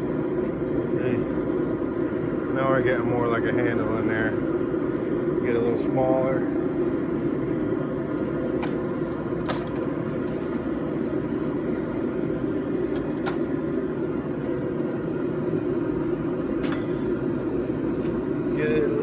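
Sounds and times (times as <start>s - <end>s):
forge burner rushing: 0.0s - 19.0s.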